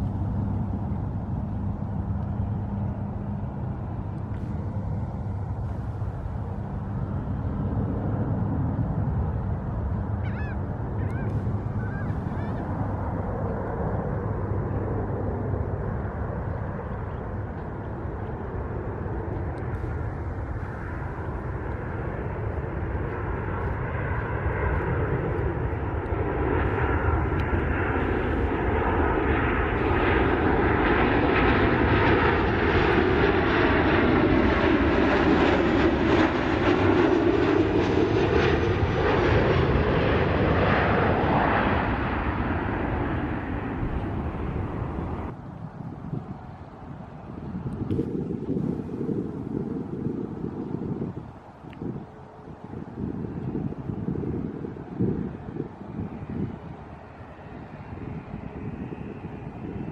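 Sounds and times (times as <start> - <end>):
jet airliner engines overhead: 0.0 - 59.9.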